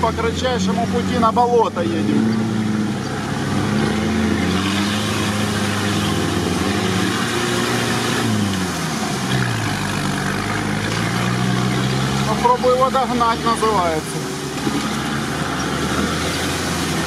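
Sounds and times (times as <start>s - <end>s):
off-road vehicle engine running: 0.0s - 17.0s
water and mud splashing: 0.2s - 17.0s.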